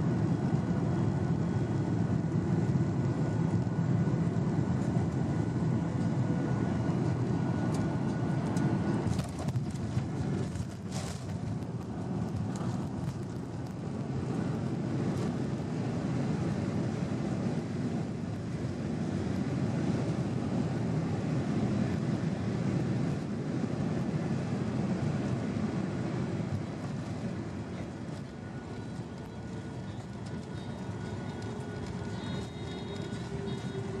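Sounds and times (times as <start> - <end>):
airplane cabin engine rumble: 0.0 - 34.0.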